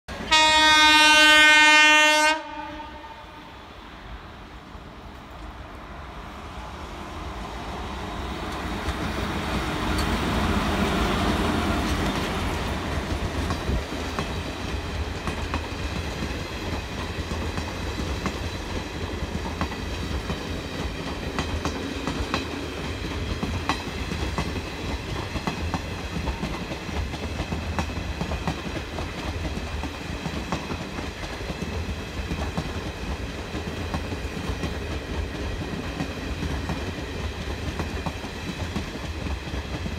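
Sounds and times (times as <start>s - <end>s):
electric locomotive passing: 0.1s - 39.9s.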